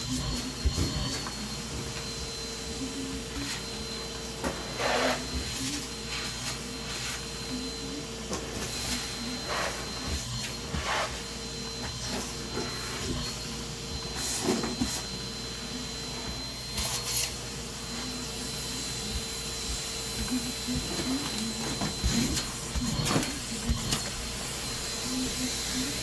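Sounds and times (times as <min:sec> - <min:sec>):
vacuum cleaner whining: 0:00.0 - 0:26.0.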